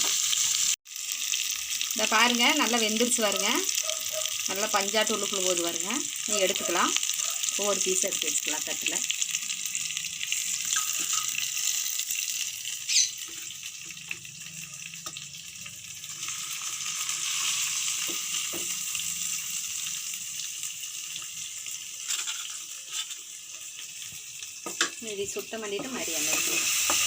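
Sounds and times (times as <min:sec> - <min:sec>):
chicken sizzling in oil: 0:00.0 - 0:27.0.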